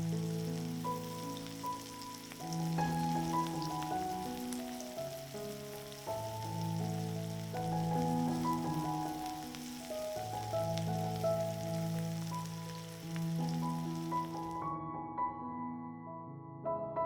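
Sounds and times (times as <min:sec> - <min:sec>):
food sizzling in a pan: 0:00.0 - 0:14.6.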